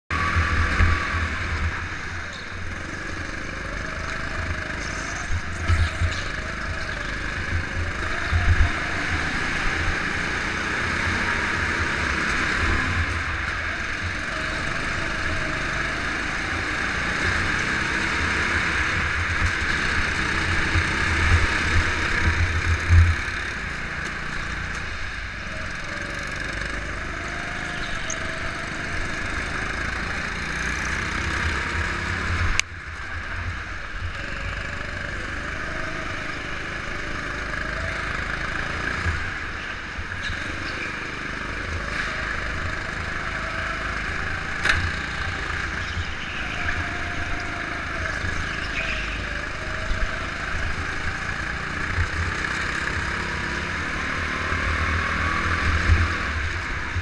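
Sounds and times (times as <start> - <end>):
go-kart engine running: 0.1 - 57.0.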